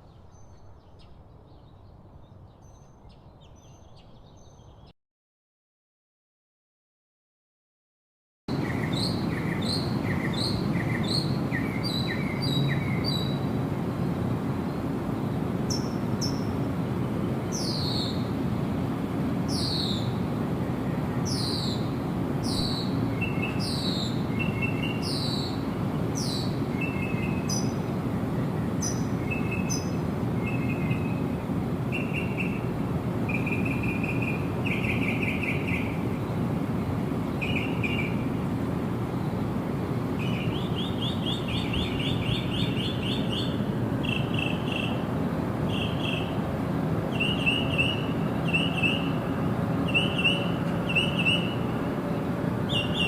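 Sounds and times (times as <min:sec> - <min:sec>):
songbirds calling: 0:00.0 - 0:04.9, 0:08.5 - 0:53.0.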